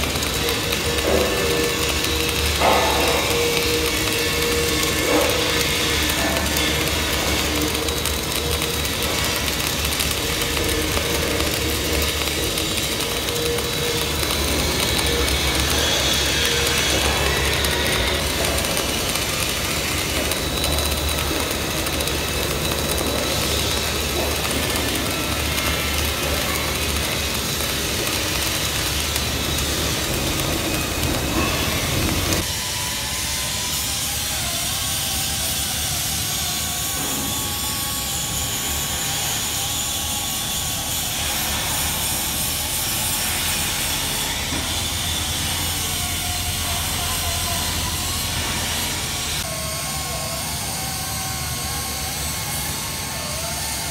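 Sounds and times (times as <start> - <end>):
machinery drone: 0.0 - 53.9
welding arc hissing: 0.0 - 53.9.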